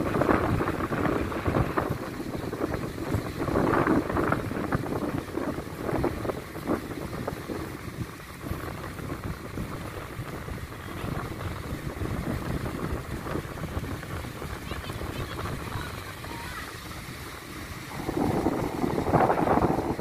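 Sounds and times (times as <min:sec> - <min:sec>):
rumbling wind: 0:00.0 - 0:20.0
surf: 0:00.0 - 0:20.0.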